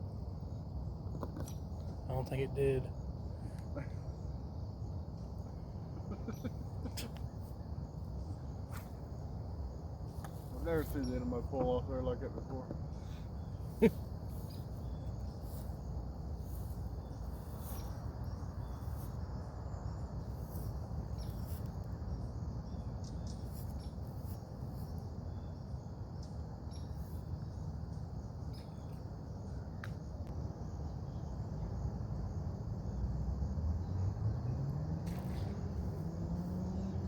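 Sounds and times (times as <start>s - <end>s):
insects chirring: 0.0s - 37.0s
low outdoor rumble: 0.0s - 37.0s.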